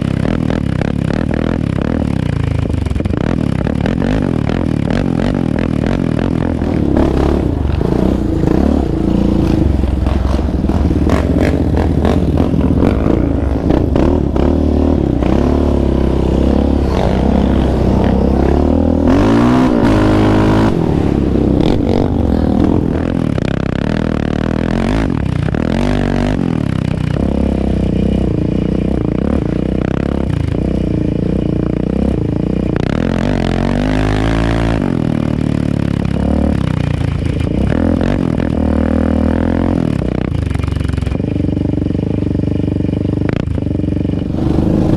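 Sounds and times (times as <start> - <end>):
quad bike engine revving: 0.0 - 44.9.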